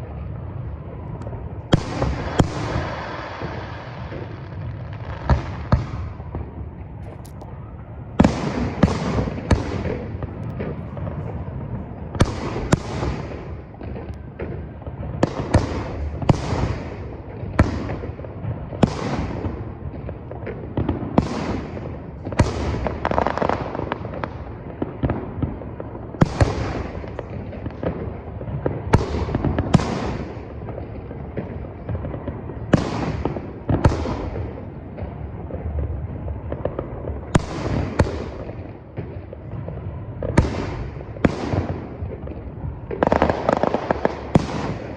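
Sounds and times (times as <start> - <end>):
fireworks bangs echoing: 1.7 - 44.9.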